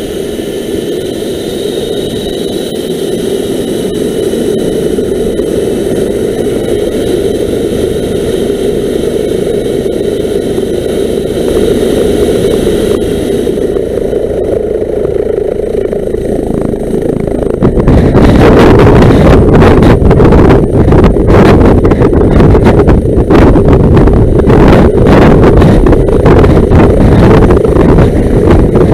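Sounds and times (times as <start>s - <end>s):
helicopter turbine whine: 0.0s - 28.9s
rotor fluttering: 0.0s - 28.9s.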